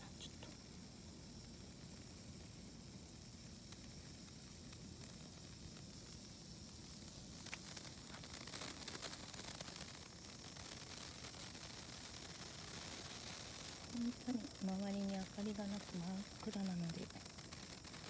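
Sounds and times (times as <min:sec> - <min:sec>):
sparkler fizzing: 0:00.0 - 0:18.0
sparks crackling: 0:00.0 - 0:18.0.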